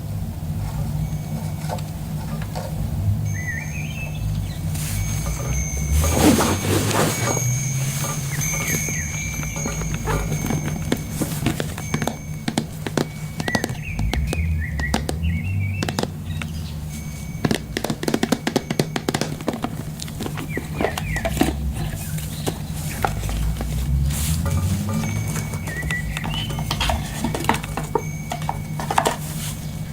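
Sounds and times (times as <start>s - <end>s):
low steady drone: 0.0s - 29.9s
small birds chirping: 0.6s - 29.9s.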